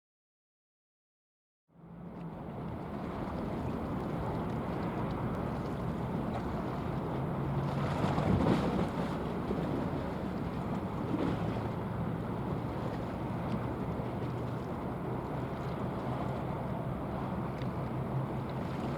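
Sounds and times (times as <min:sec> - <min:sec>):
ship engines droning: 0:02.0 - 0:18.9.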